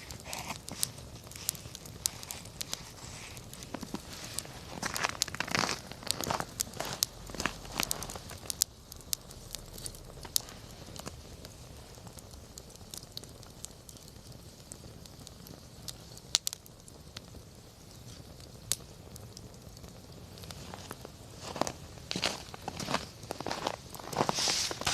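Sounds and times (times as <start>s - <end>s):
campfire crackling and popping: 0.0s - 24.9s
fire hissing: 0.0s - 24.9s.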